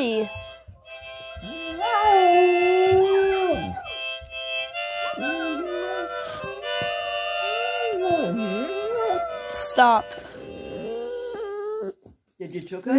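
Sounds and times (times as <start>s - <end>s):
harmonica chord: 0.0s - 11.8s
dog howling: 1.4s - 12.1s.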